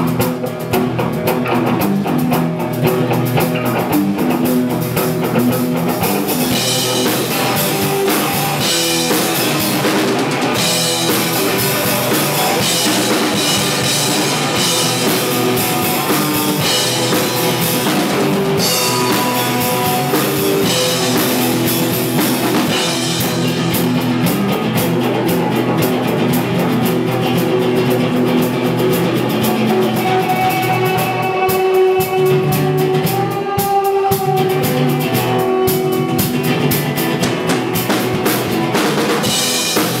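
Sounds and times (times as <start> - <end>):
drum kit: 0.0 - 40.0
electric guitar: 0.0 - 40.0.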